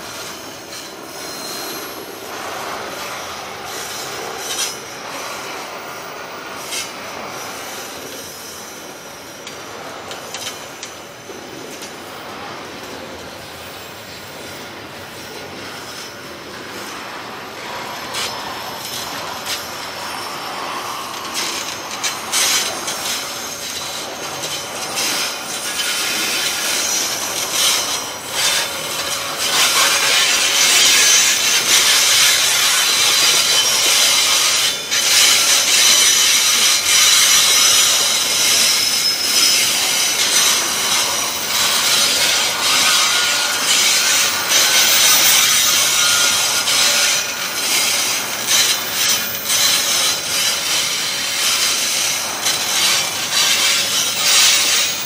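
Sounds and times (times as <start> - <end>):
high wheel squeals: 0.0 - 55.0
train wheels grinding on rails: 0.0 - 55.0.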